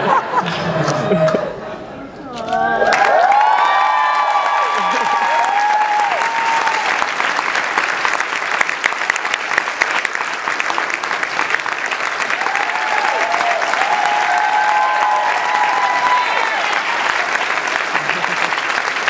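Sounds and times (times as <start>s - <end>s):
crowd cheering: 2.5s - 19.0s
crowd applauding: 2.6s - 19.0s.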